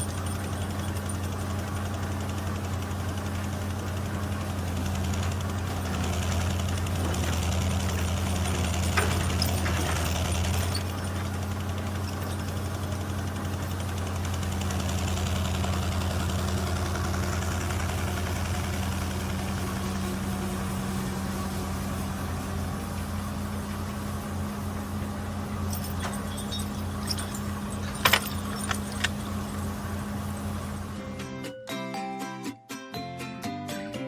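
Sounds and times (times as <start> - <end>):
heavy machinery engine idling: 0.0 - 31.1.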